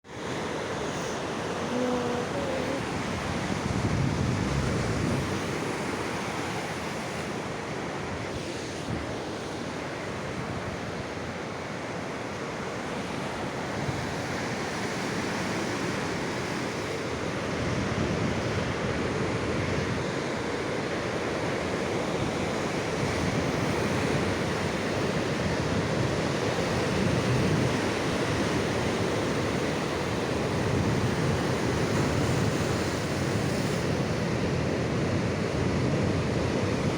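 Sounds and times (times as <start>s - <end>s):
sea waves washing onto shore: 0.1s - 36.9s.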